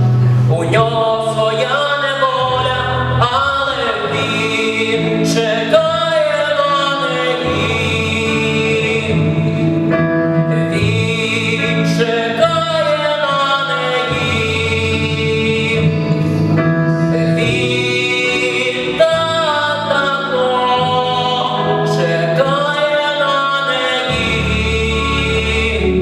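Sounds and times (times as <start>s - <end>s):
instrumental accompaniment: 0.0s - 26.0s
person singing long gliding notes: 0.0s - 26.0s.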